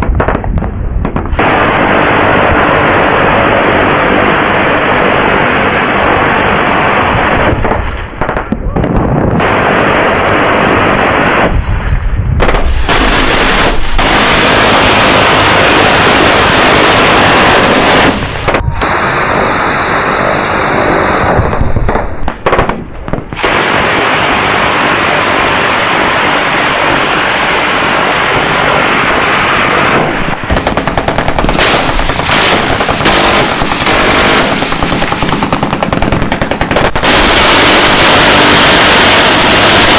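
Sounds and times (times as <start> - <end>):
rotary machine gun firing: 0.0 - 19.5, 20.8 - 39.9.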